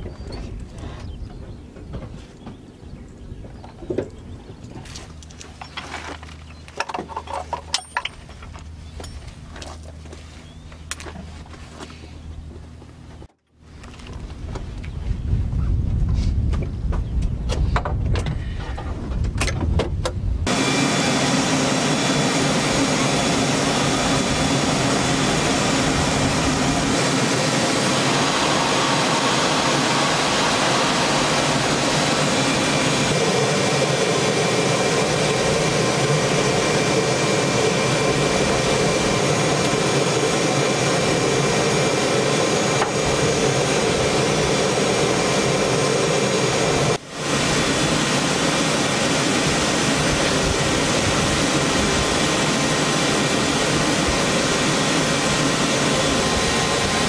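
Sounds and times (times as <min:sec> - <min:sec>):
helicopter turbine engines running: 0:00.0 - 0:15.3, 0:20.4 - 0:57.0.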